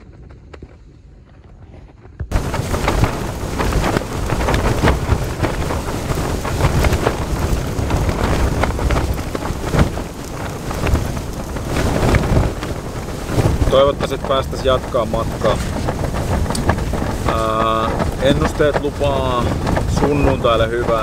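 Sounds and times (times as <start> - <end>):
tent fabric flapping in wind: 0.0 - 21.0.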